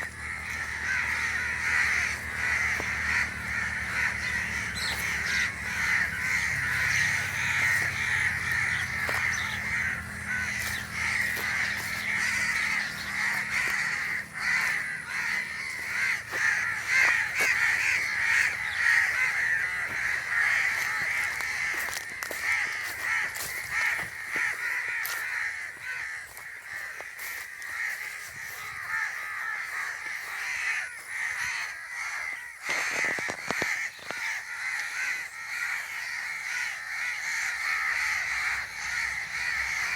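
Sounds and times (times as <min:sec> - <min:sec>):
crows cawing: 0:00.0 - 0:39.9.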